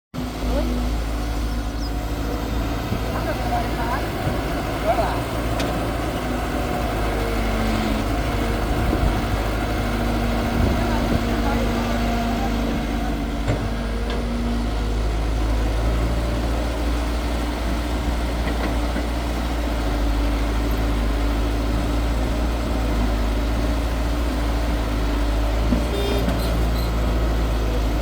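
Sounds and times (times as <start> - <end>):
excavator diesel engine running: 0.2 - 28.0.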